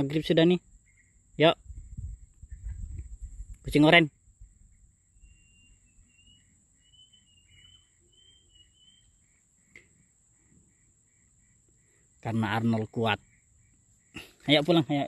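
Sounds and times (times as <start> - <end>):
faint bird chirps: 0.0 - 15.0
faint regular pulsing: 0.6 - 15.0.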